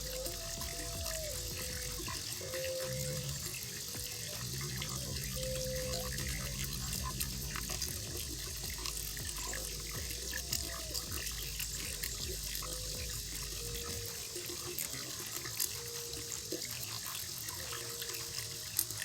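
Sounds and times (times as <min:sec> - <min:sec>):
pond water running and splashing: 0:00.0 - 0:19.0
water drips: 0:00.0 - 0:19.0.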